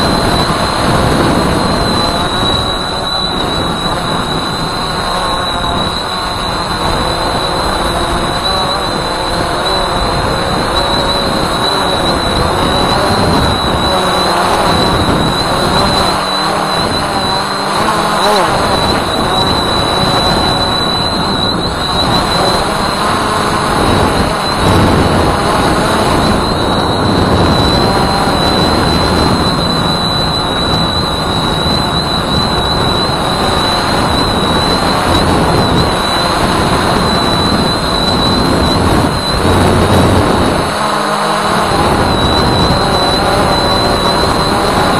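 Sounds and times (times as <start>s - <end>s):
drone motor and propeller whine: 0.0s - 44.9s
wind rushing on microphone: 0.0s - 44.9s.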